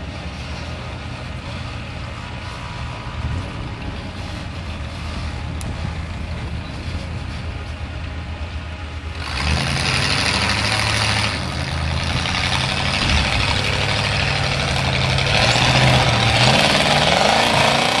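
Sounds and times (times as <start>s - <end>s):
buggy engine running under load: 0.0s - 18.0s.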